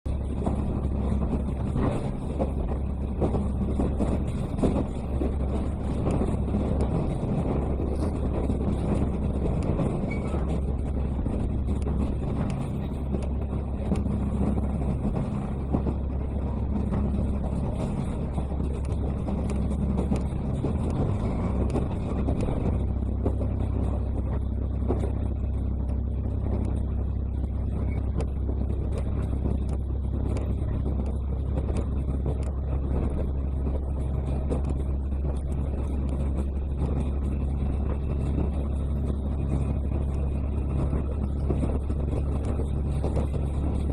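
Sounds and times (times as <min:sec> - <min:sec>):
diesel engine drone: 0:00.0 - 0:43.9
wheels rumbling on rails: 0:00.0 - 0:43.9.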